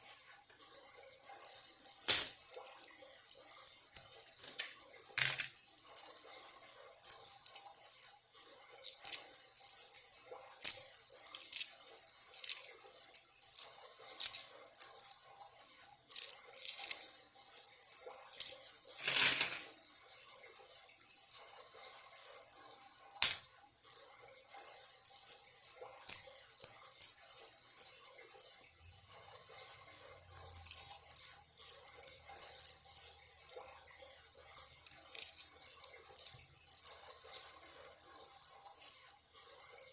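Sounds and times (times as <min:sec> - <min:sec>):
coins clinking: 0:00.6 - 0:28.6, 0:30.2 - 0:39.9
coins sliding rattle: 0:00.6 - 0:39.9.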